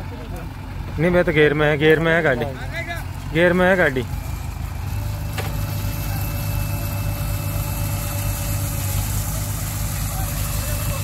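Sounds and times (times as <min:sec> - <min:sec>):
heavy diesel engines running: 0:00.0 - 0:11.0.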